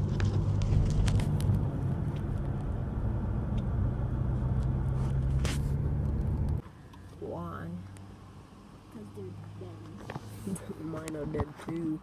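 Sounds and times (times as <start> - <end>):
car engine hum from inside: 0.0 - 12.0.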